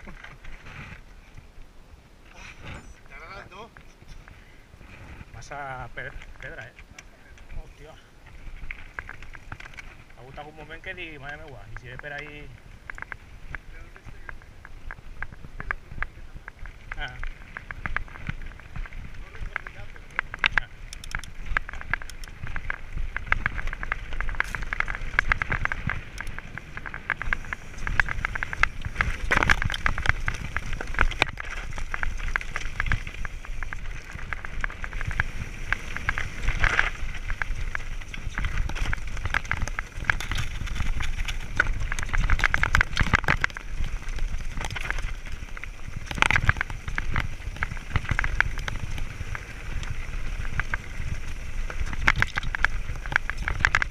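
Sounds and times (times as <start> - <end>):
bike rattling: 0.0 - 1.6, 2.4 - 53.9
wind rumble on microphone: 0.0 - 53.9
tyres crunching over stones: 2.6 - 53.9.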